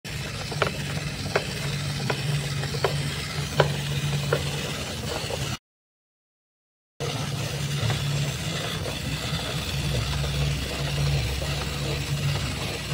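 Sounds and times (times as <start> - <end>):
low motor hum: 0.1 - 5.6, 7.0 - 12.9.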